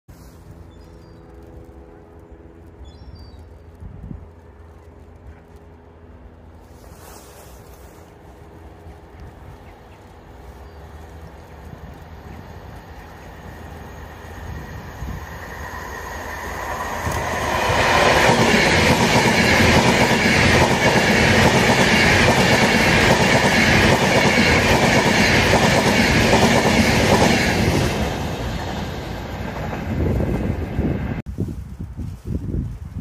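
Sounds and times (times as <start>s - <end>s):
train wheels on rails: 4.6s - 31.2s.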